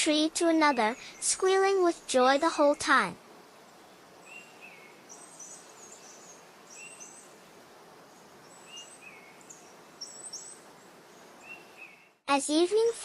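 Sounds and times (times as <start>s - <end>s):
steady soft hiss: 0.0s - 13.0s
small birds chirping: 0.2s - 12.2s.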